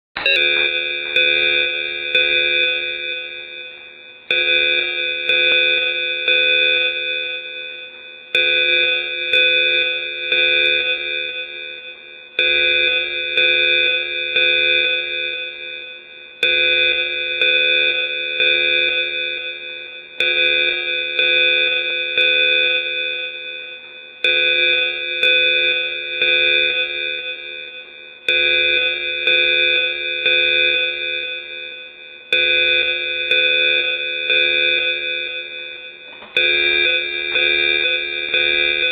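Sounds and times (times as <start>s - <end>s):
evacuation alarm tone chord: 0.2s - 38.9s.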